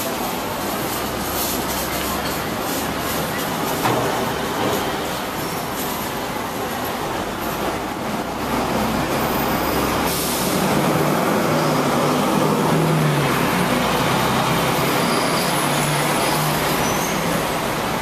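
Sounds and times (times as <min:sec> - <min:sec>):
street traffic: 0:00.0 - 0:18.0
tram motor hum and wheels: 0:00.0 - 0:18.0.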